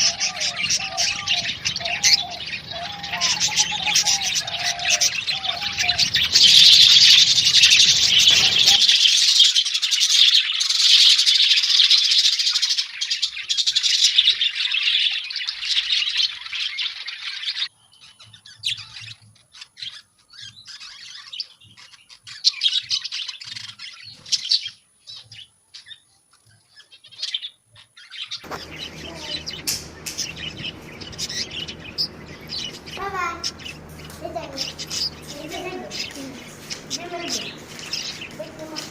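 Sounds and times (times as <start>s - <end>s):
background noise: 0.0s - 32.3s
small birds chirping: 0.0s - 38.9s.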